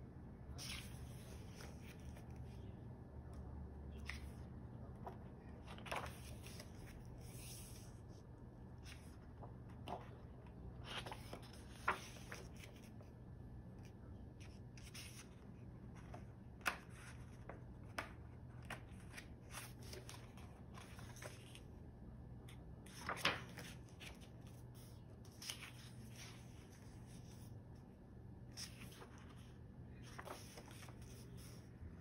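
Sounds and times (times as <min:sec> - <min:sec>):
book pages rustling: 0:00.5 - 0:02.8, 0:03.9 - 0:32.0.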